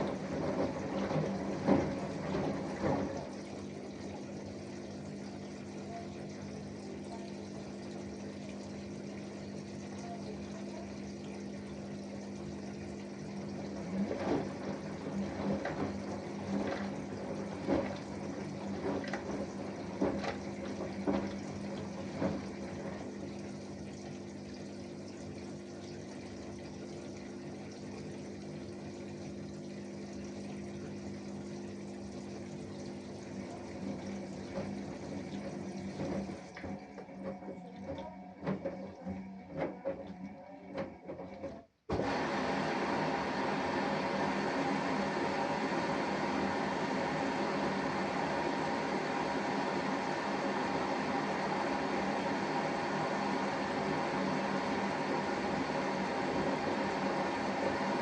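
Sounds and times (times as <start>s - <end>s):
washing machine hum: 0.0s - 58.0s
water sloshing in washing machine: 0.0s - 58.0s.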